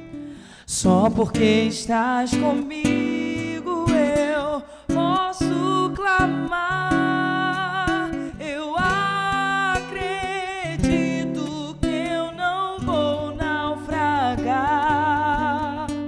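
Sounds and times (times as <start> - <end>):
acoustic guitar: 0.0 - 16.0
woman singing gospel song: 2.0 - 16.0.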